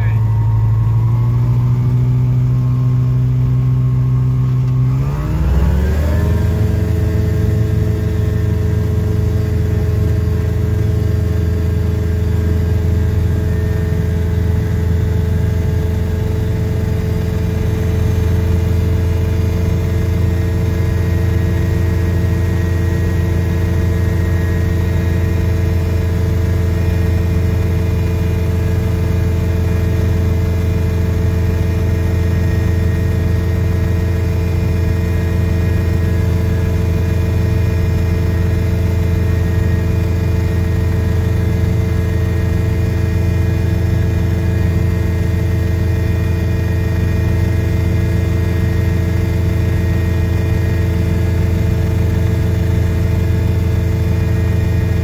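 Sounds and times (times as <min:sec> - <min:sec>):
light aircraft engine running up: 0:00.0 - 0:55.0.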